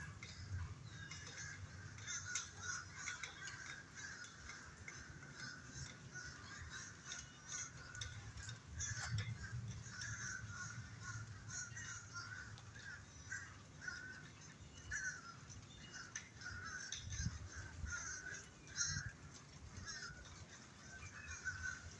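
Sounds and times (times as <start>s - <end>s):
birds calling harshly: 0.0s - 21.9s.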